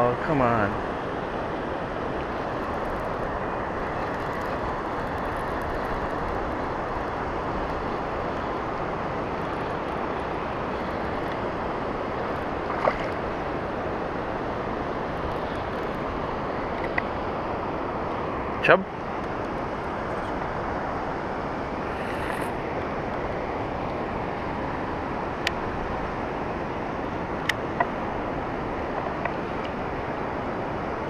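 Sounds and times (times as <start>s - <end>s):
rushing water: 0.0s - 31.0s
wind on microphone: 0.8s - 18.6s, 19.2s - 31.0s.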